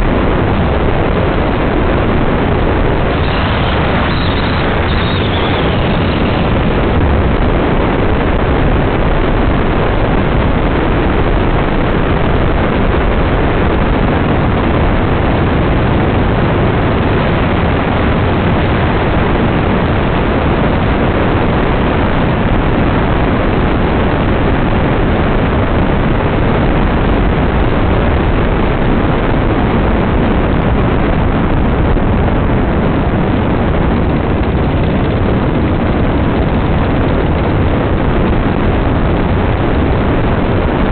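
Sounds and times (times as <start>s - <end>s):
dune buggy engine: 0.0s - 40.9s
wind rushing: 0.0s - 40.9s.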